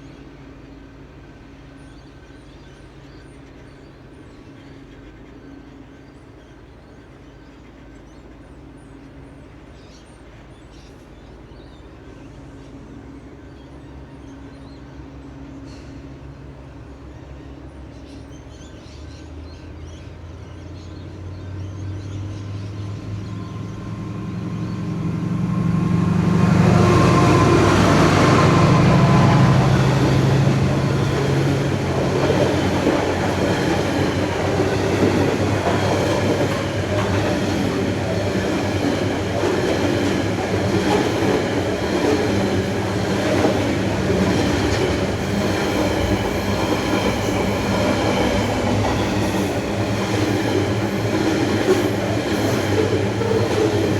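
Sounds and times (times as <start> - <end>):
diesel locomotive engine: 0.0 - 53.9.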